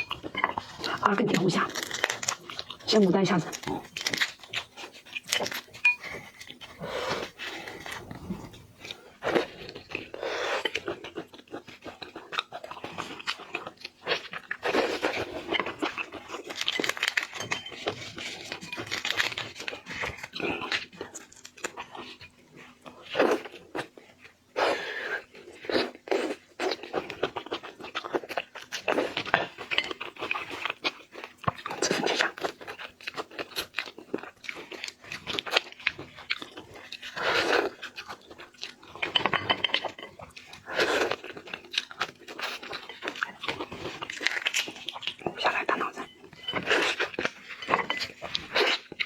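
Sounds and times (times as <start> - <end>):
crunching and chewing shrimp: 0.0 - 49.0.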